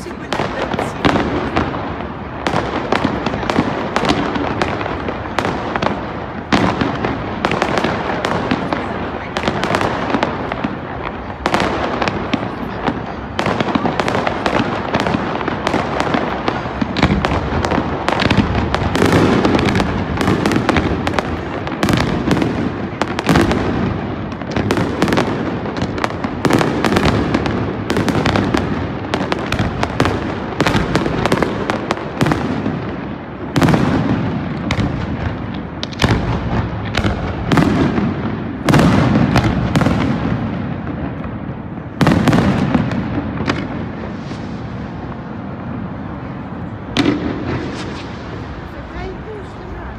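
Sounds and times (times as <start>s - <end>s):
fireworks bursting and crackling: 0.0s - 49.9s.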